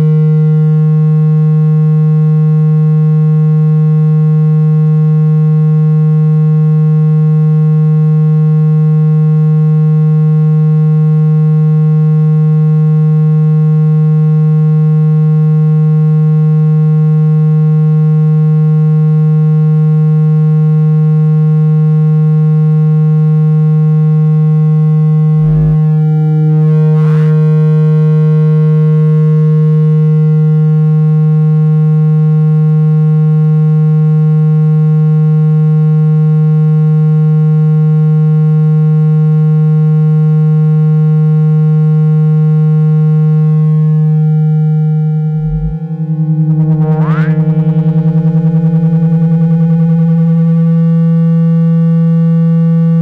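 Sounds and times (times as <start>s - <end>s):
low buzzing tone: 0.0s - 36.4s, 39.3s - 53.0s.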